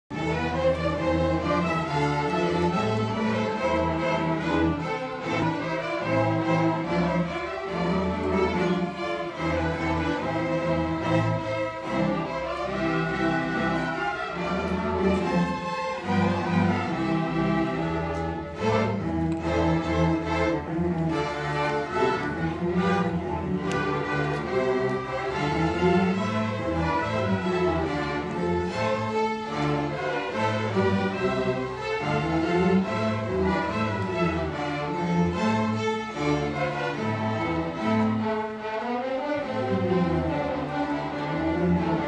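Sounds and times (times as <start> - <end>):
string orchestra playing: 0.1 - 42.0.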